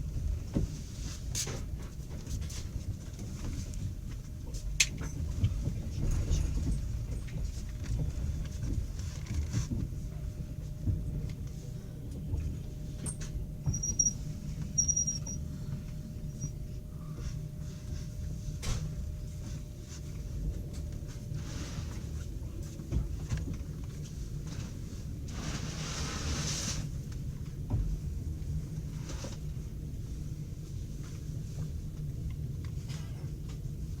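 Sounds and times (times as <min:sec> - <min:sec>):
train carriage rumble: 0:00.0 - 0:34.0.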